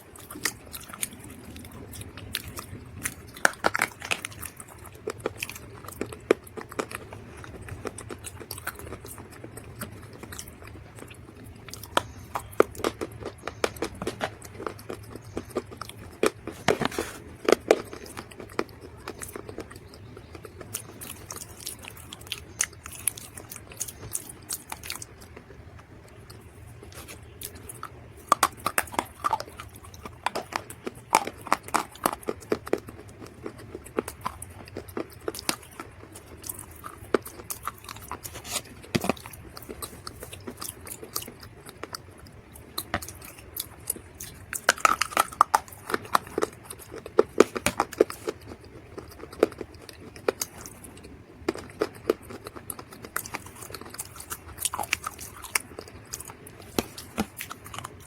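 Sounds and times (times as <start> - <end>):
dry clay crunching when chewed: 0.0 - 58.0.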